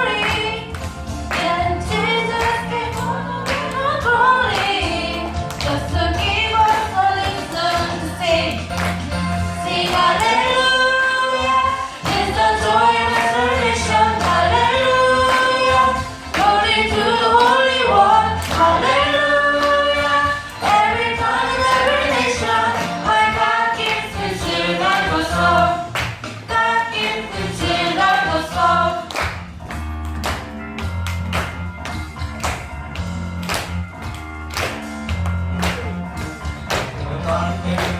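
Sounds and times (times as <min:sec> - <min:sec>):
group singing a worship song: 0:00.0 - 0:29.4, 0:36.8 - 0:37.9
bass line: 0:00.0 - 0:37.9.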